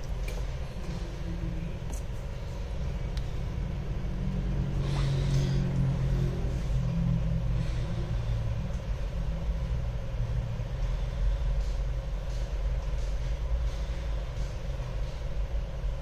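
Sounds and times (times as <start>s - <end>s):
faint steady hum: 0.0s - 16.0s
low background rumble: 0.0s - 16.0s.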